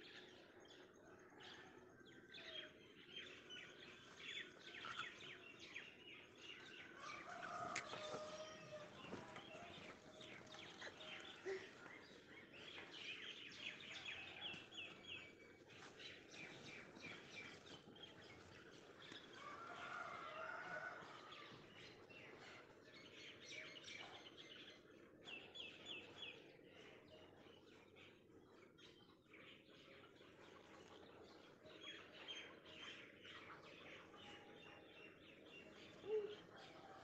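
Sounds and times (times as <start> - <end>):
small birds chirping: 2.2 - 37.0.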